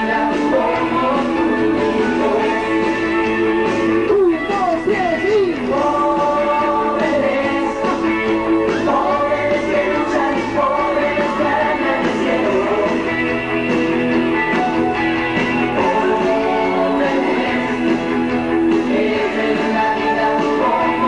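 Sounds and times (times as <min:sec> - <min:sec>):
lead singer singing: 0:00.0 - 0:14.0, 0:15.6 - 0:21.0
rock band playing: 0:00.0 - 0:21.0.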